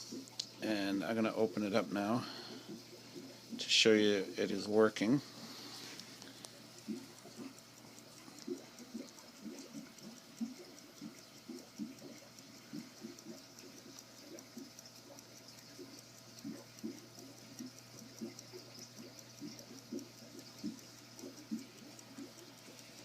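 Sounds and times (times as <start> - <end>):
pocket watch ticking: 0.0 - 23.0.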